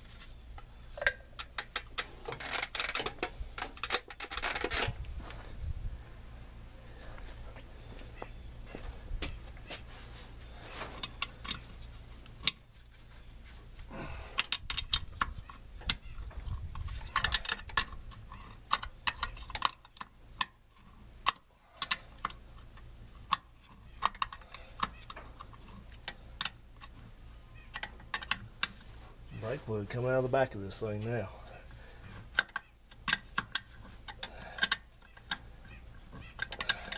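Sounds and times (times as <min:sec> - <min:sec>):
faint low hum: 0:00.0 - 0:36.9.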